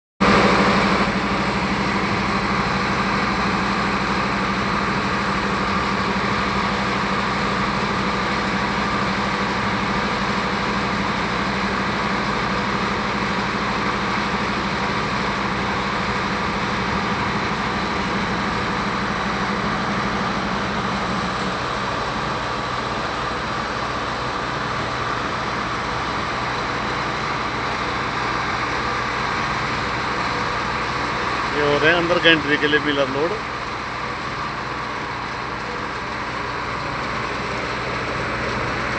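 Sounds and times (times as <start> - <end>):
heavy machinery running: 0.2 - 38.9.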